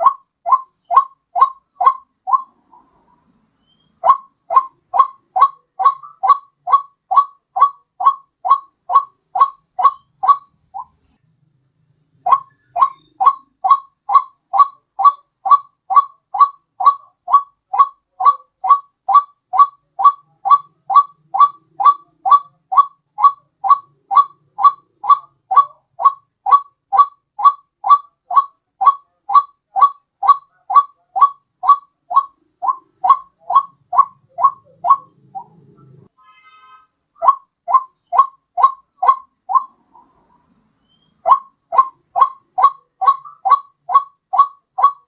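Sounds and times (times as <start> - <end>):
bird call with rising notes: 0.0 - 11.2, 12.2 - 36.1, 37.2 - 45.0.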